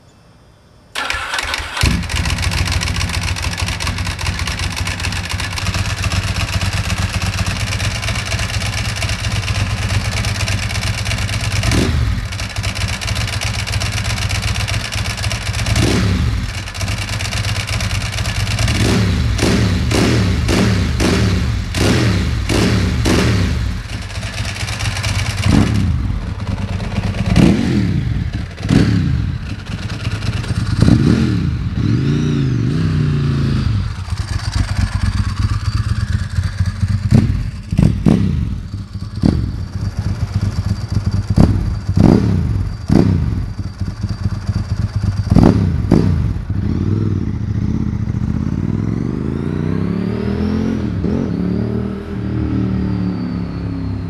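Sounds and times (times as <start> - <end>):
motorcycle engine revving: 1.0 - 54.0.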